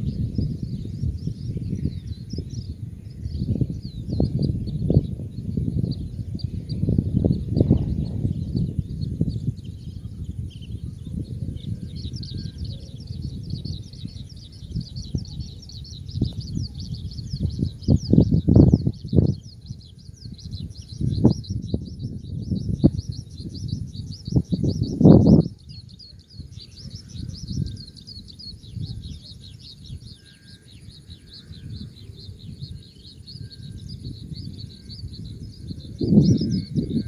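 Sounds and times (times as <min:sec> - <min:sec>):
birds chirping: 0:00.0 - 0:37.0
low gusty rumbles: 0:00.0 - 0:37.0.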